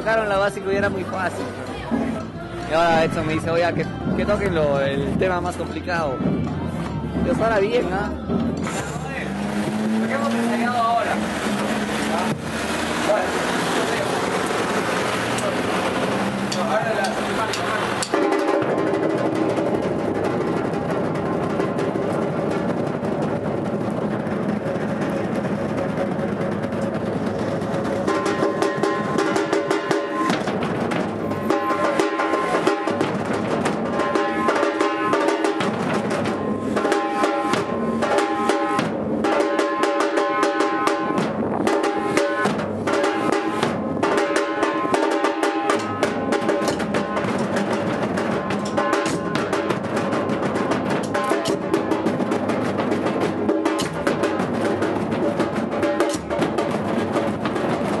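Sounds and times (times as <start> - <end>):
drum ensemble playing: 0.0 - 58.0.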